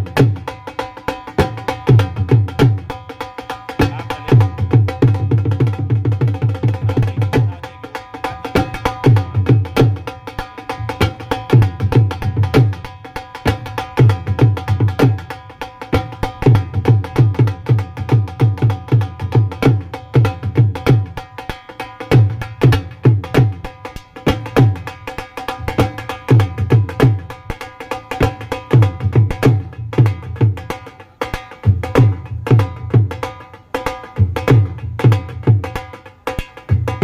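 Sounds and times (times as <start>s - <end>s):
dense percussion beat: 0.0s - 37.0s.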